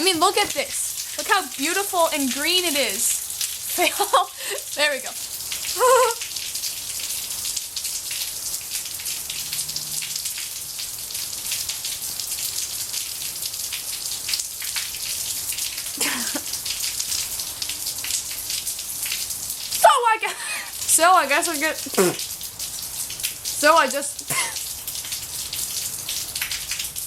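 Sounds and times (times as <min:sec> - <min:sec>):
rain pattering on hard surface: 0:00.0 - 0:27.0.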